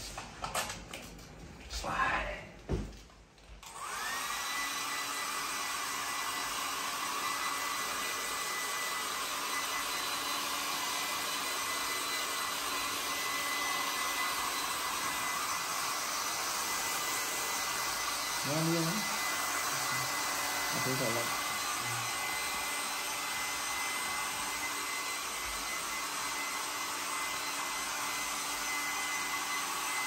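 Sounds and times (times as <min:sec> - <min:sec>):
hair dryer running: 0:03.6 - 0:30.0.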